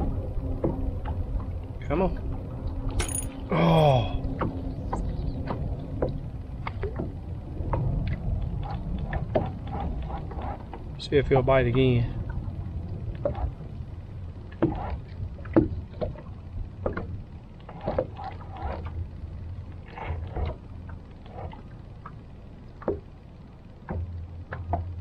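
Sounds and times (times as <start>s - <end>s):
steady low hum: 0.0s - 25.0s
water lapping against boat hull: 4.2s - 25.0s.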